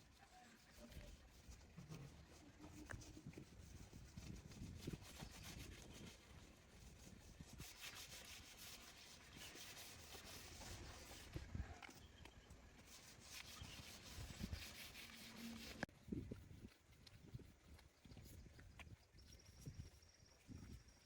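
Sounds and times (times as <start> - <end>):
hand rubbing and scraping: 0.1 - 18.8.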